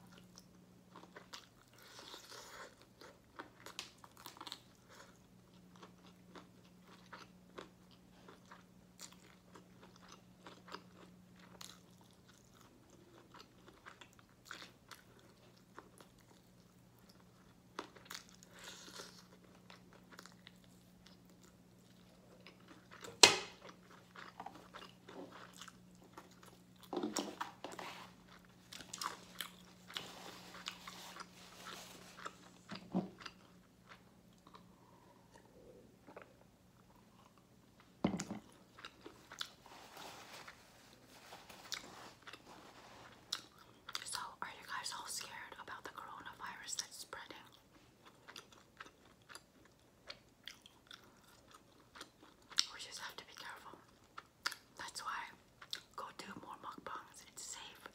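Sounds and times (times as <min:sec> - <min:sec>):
chewing crispy fried chicken: 0:00.0 - 0:57.9
faint low hum: 0:00.0 - 0:57.9.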